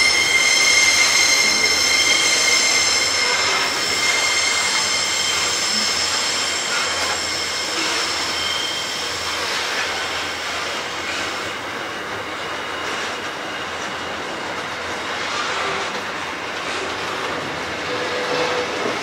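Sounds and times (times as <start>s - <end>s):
high-pitched wheel squeal: 0.0s - 14.4s, 17.8s - 19.0s
train wheels rumbling on rails: 0.0s - 19.0s.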